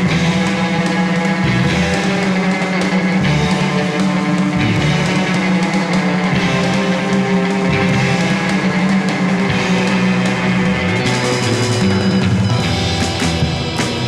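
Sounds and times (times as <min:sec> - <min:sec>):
instrumental rock music: 0:00.0 - 0:14.0.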